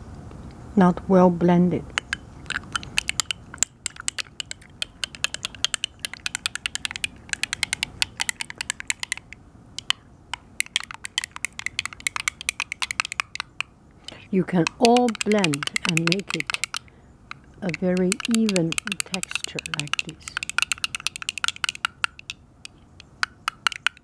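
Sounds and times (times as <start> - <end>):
metal spoon clicking against glass jar: 1.9 - 10.0, 10.6 - 24.0.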